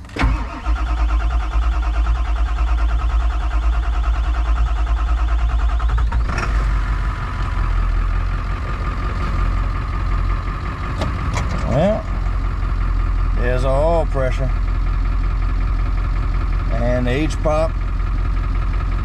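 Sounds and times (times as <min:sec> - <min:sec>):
diesel engine cranking: 0:00.0 - 0:19.0
diesel engine idling: 0:00.0 - 0:19.0.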